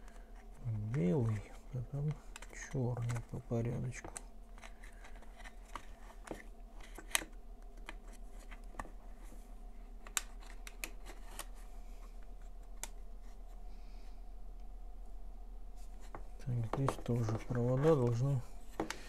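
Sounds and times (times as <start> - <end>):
wires rustling and clicking: 0.0 - 13.6, 15.7 - 19.0.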